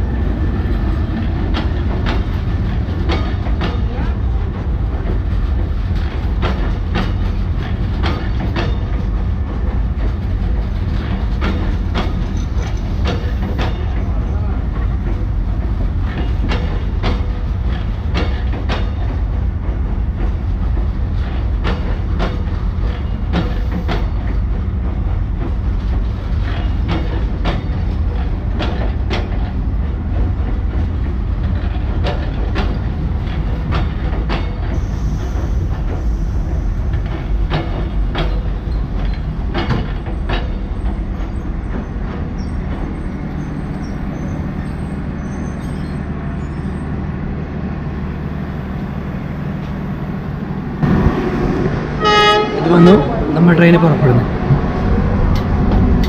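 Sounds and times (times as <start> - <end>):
train rumbling: 0.0 - 56.0
wheels clacking over rail joints: 0.0 - 56.0.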